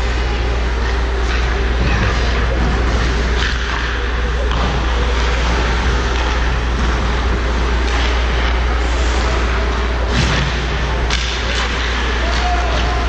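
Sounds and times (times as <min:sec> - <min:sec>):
indoor ice rink background rumble: 0:00.0 - 0:13.0.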